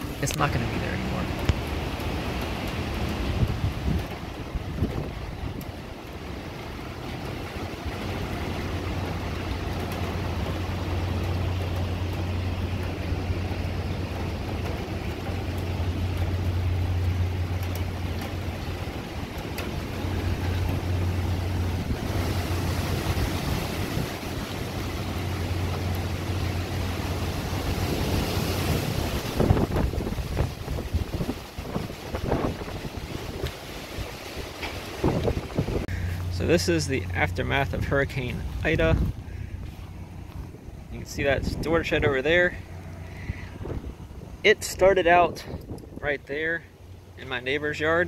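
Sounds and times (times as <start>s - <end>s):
wind buffeting microphone: 0.0s - 36.3s, 37.2s - 46.0s
wind gusting through trees: 0.0s - 48.0s.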